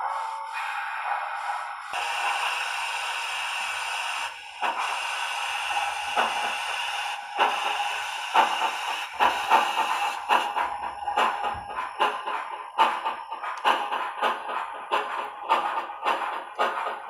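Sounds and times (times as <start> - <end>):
steam hiss: 0.0 - 17.0
steam locomotive exhaust chuffs: 0.0 - 17.0.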